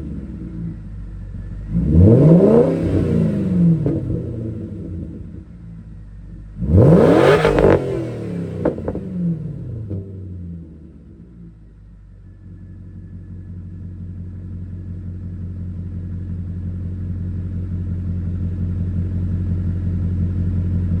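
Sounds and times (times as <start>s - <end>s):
engine idling with deep rumble: 0.0s - 21.0s.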